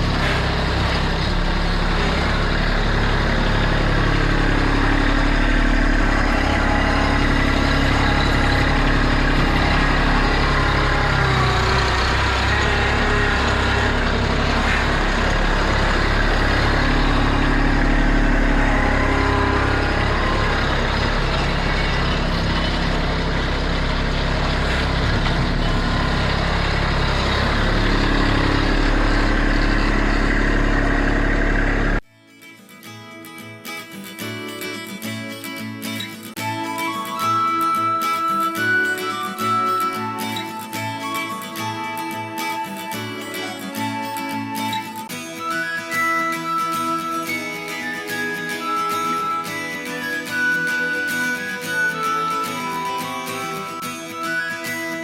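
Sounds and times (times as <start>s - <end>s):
tractor diesel engine running: 0.0s - 32.0s, 36.3s - 55.0s.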